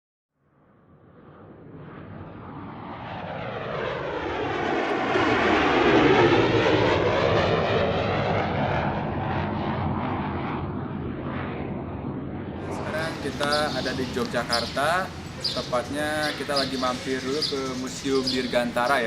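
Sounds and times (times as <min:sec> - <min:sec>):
airplane passing overhead: 0:00.7 - 0:19.0.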